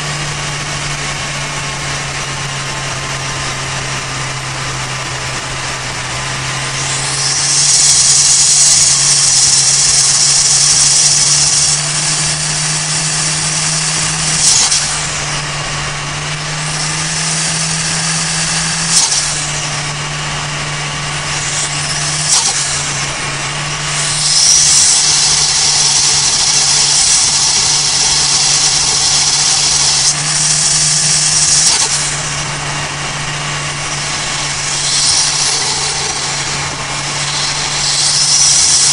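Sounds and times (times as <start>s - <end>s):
car engine drone: 0.0s - 38.9s
short sharp turbo bursts: 0.0s - 38.9s
turbo whine and hiss: 0.0s - 38.9s.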